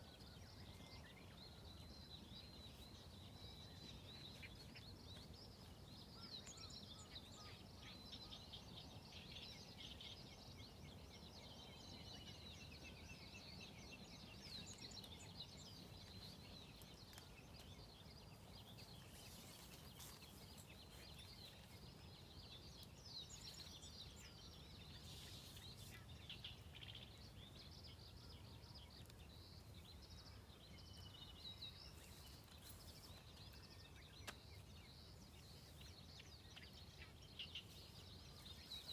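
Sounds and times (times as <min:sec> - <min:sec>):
faint birds chirping: 0:00.0 - 0:38.9.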